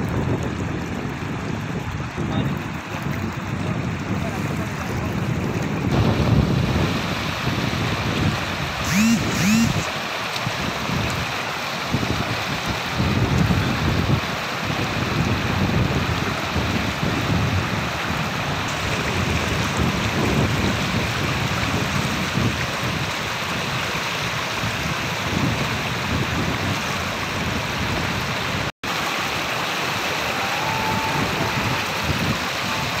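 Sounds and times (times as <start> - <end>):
floodwater rushing and splashing: 0.0 - 33.0.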